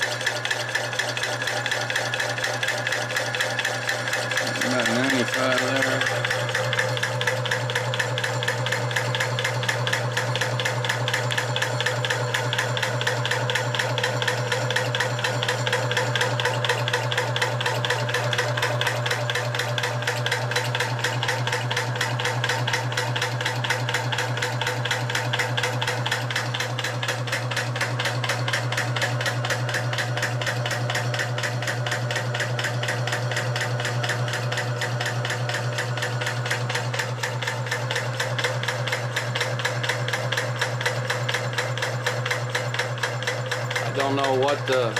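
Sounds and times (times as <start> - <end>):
air compressor clattering: 0.0 - 44.9.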